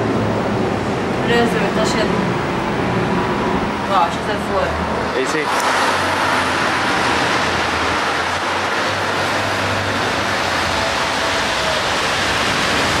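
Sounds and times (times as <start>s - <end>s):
cars passing: 0.0s - 13.0s
street traffic rumble: 0.0s - 13.0s.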